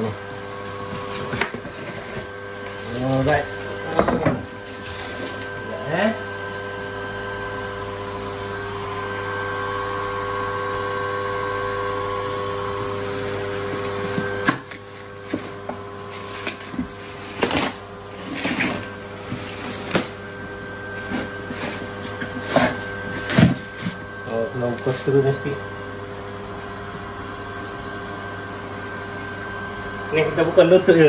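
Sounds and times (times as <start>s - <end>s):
electric motor humming: 0.0s - 31.0s.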